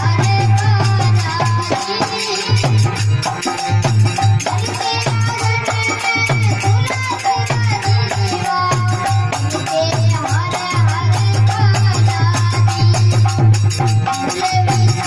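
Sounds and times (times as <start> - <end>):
pulsing drum beat: 0.0 - 15.0
rattling percussion: 0.0 - 15.0.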